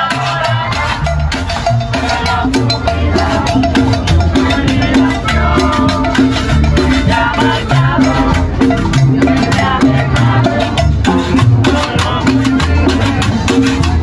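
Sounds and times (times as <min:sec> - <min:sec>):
band playing latin dance music: 0:00.0 - 0:14.0
drums and percussion: 0:00.0 - 0:14.0
upright bass line: 0:00.0 - 0:14.0.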